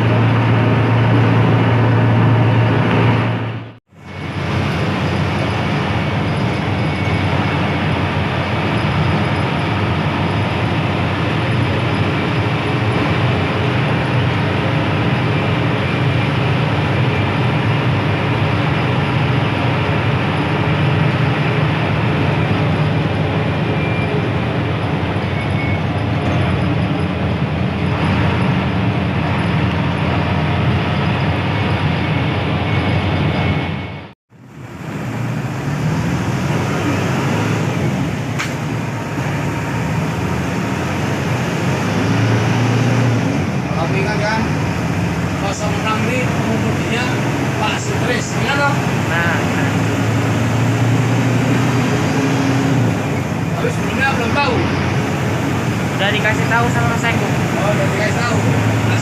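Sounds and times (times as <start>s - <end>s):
bus engine drone: 0.0s - 59.0s
road and tyre noise: 0.0s - 59.0s.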